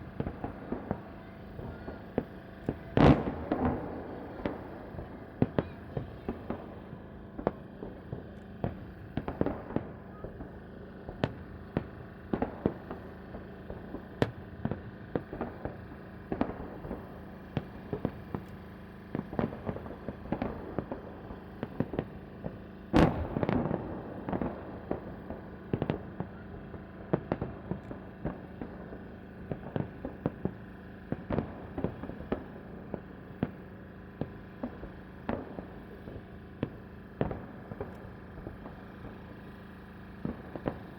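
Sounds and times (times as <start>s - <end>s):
firework crackling: 0.0s - 40.9s
firework shells bursting: 0.0s - 40.9s.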